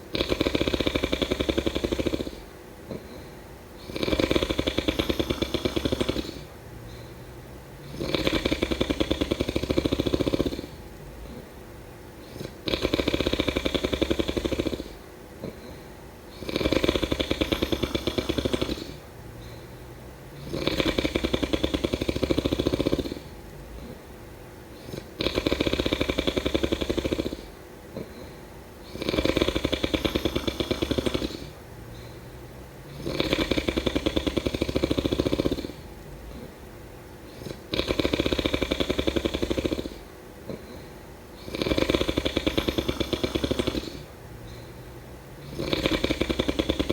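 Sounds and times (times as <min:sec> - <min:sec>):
rattling snore: 0:00.0 - 0:11.6, 0:12.2 - 0:24.1, 0:24.7 - 0:36.6, 0:37.2 - 0:46.9
quiet breathing: 0:00.0 - 0:46.9.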